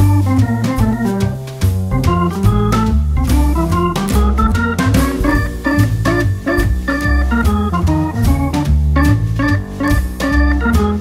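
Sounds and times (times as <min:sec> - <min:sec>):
bass line: 0:00.0 - 0:11.0
keyboard tune with organ sound: 0:00.0 - 0:11.0
steady beat: 0:00.0 - 0:11.0.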